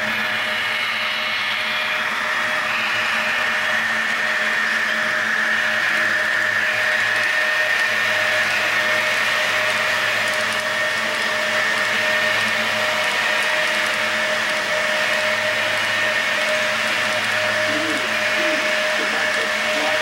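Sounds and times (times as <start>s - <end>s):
high whine of model locomotives: 0.0s - 20.0s
model train running: 0.0s - 20.0s.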